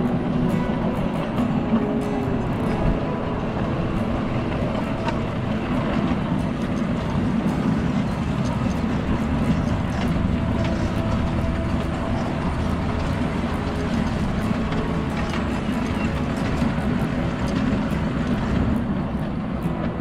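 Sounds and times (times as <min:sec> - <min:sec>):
miniature train wheels rumbling: 0:00.0 - 0:20.0.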